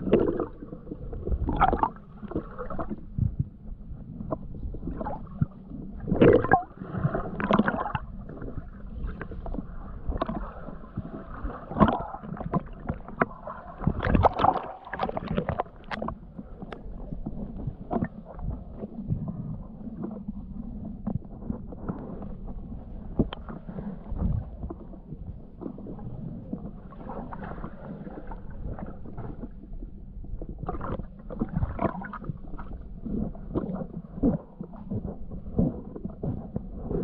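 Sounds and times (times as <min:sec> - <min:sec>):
muffled water sloshing: 0:00.0 - 0:37.0.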